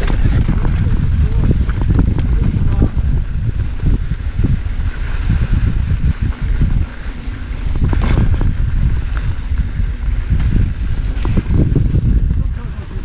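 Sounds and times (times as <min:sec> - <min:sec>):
bike rattling over rocks: 0:00.0 - 0:13.0
wind rumbling on microphone: 0:00.0 - 0:13.0.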